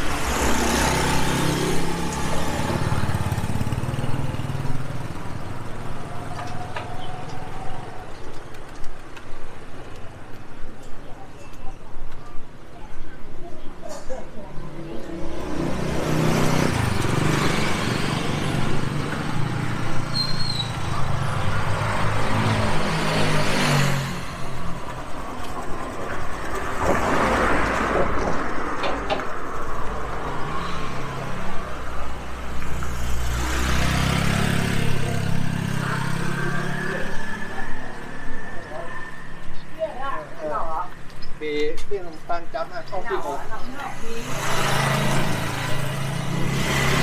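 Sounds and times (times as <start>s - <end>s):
vehicles driving past: 0.0s - 10.6s, 14.2s - 47.0s.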